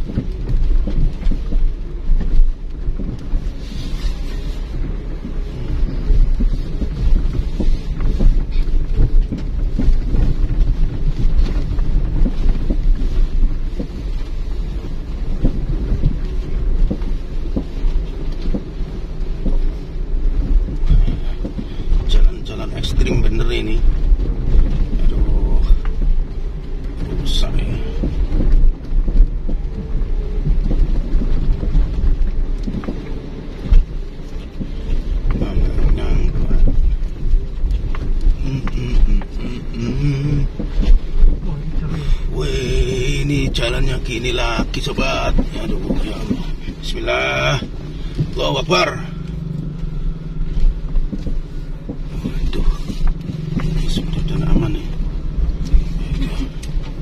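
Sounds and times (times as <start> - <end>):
car knocking over bumps: 0.0 - 57.0
tyres rumbling on dirt road: 0.0 - 57.0.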